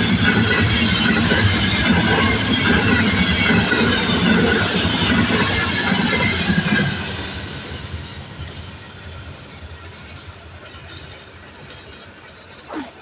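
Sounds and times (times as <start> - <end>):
train wheels rumbling on rails: 0.0 - 12.7.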